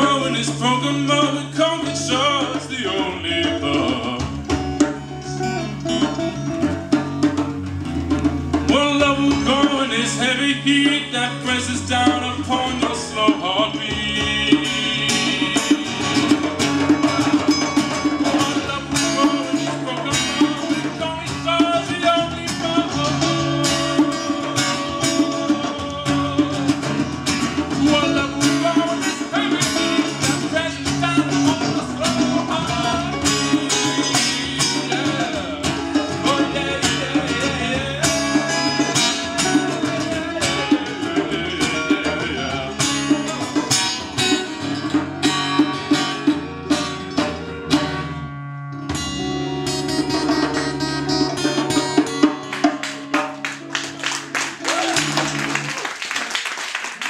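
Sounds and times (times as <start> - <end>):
electric bass line: 0.0 - 52.6
strummed acoustic guitars: 0.0 - 56.1.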